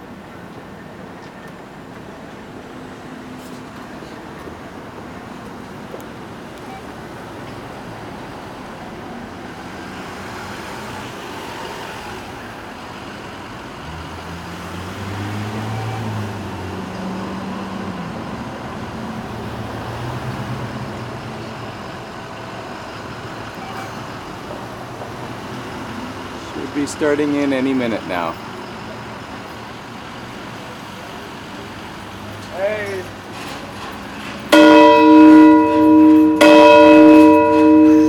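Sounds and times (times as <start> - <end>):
road traffic: 0.0 - 38.0
passing vehicle engine hum: 2.5 - 32.5, 33.1 - 38.0.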